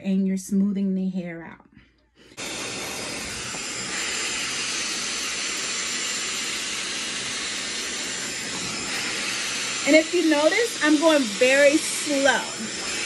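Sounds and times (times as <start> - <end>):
hair dryer blowing: 2.2 - 13.0.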